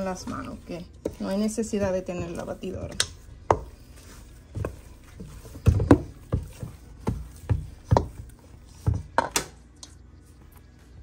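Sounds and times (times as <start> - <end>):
spoon beating thick dough: 0.0 - 11.0.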